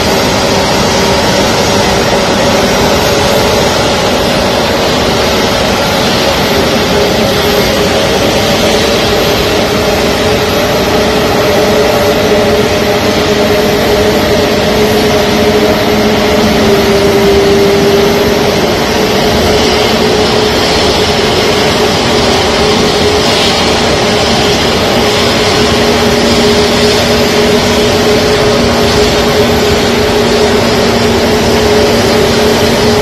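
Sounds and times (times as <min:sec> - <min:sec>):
aircraft engines running: 0:00.0 - 0:33.0.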